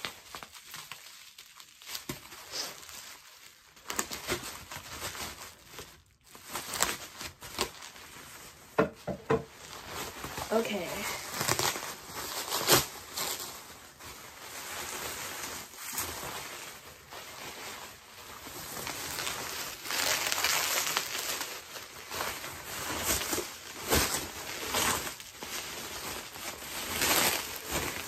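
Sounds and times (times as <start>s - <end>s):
packaging crinkling and rustling: 0.0s - 28.0s
sharp packaging crackle: 0.0s - 28.0s.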